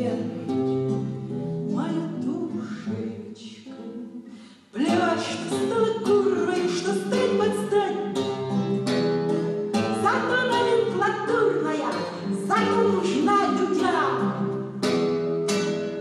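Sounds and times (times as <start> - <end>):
woman singing: 0.0 - 14.7
strummed classical guitar: 0.0 - 16.0.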